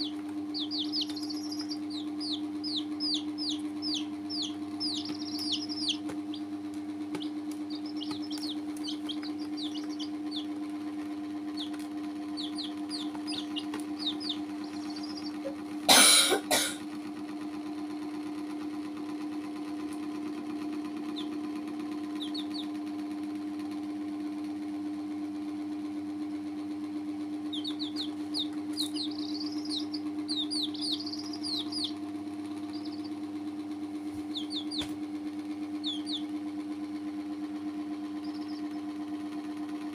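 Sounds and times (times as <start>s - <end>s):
baby chicks peeping: 0.0s - 16.3s, 19.1s - 23.8s, 25.8s - 39.9s
steady low hum: 0.0s - 17.9s, 18.6s - 39.9s.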